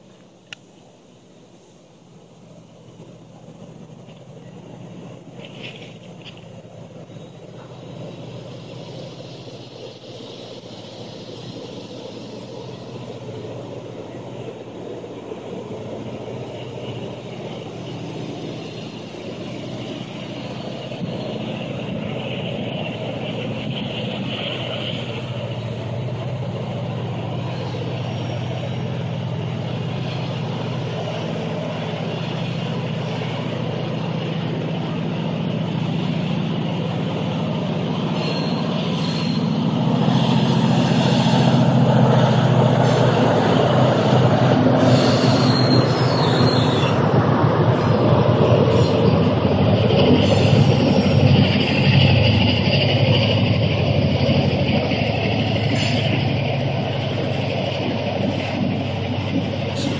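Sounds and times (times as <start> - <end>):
diesel locomotive engine drone: 0.0 - 59.9
wheel-on-rail noise: 0.0 - 59.9.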